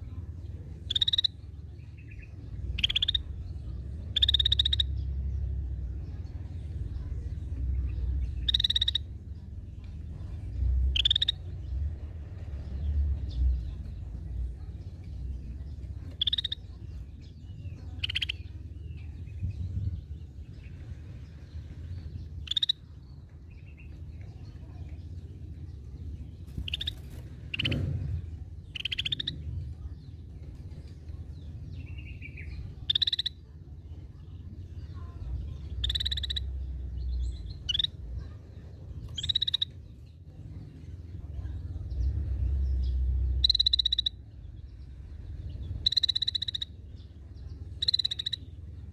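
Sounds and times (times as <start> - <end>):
low background rumble: 0.0 - 48.9.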